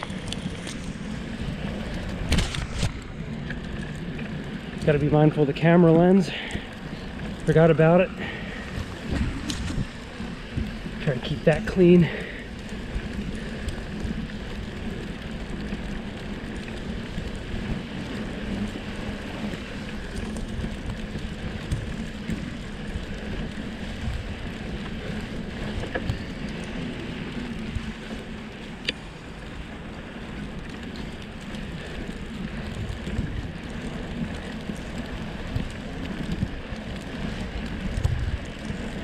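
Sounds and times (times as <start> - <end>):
wind noise on microphone: 0.0 - 3.8, 7.3 - 28.2, 31.8 - 39.0
bike tyres rolling on snow: 0.0 - 39.0.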